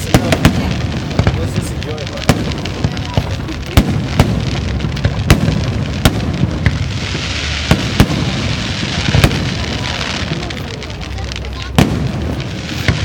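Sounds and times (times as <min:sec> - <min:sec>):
fireworks bursting with sharp bangs: 0:00.0 - 0:13.0.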